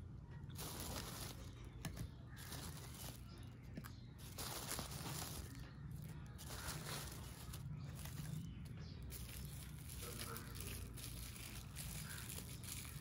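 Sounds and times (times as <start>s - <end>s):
plastic bag crinkling: 0.5s - 13.0s.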